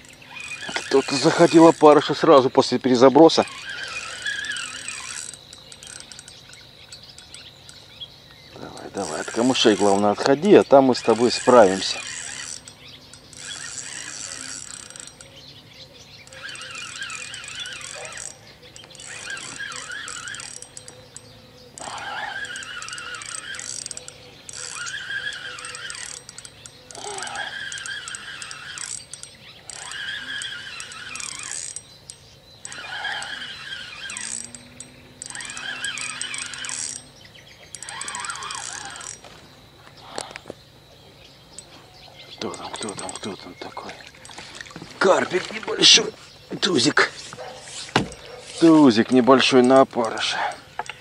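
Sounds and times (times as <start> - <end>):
fishing reel whirring: 0.0 - 40.4, 42.4 - 51.0
birdsong: 0.0 - 51.0.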